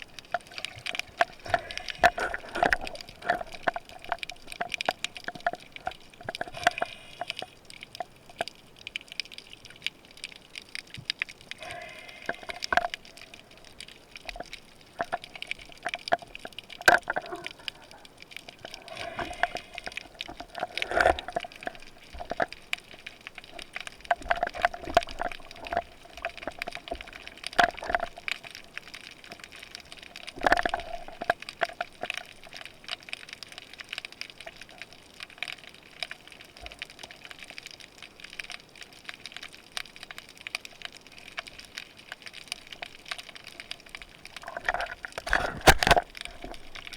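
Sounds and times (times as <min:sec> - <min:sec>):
sharp underwater clicks: 0:00.0 - 0:46.9
underwater gurgling and sloshing: 0:00.0 - 0:46.9.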